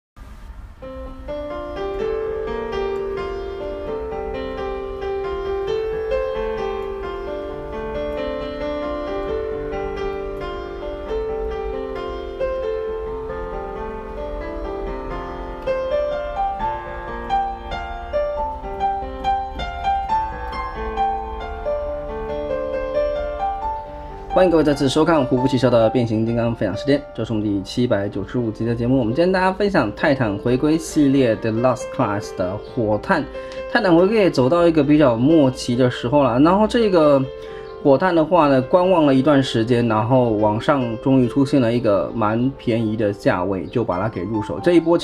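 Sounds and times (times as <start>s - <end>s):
piano music: 0.2s - 45.0s.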